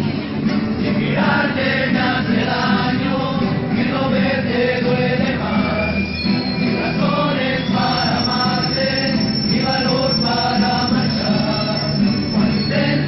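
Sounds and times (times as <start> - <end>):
string ensemble with voices singing: 0.0 - 13.0.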